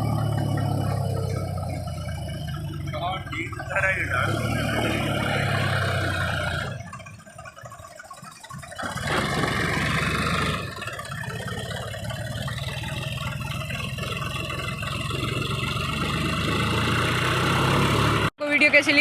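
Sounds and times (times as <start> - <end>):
diesel tractor engines under load: 0.0 - 19.0.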